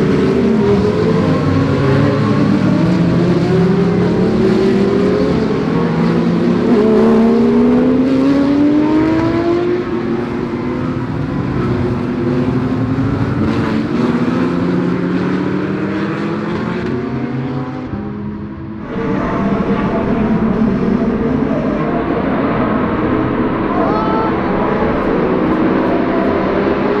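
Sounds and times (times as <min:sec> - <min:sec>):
race car engines accelerating: 0:00.0 - 0:27.0.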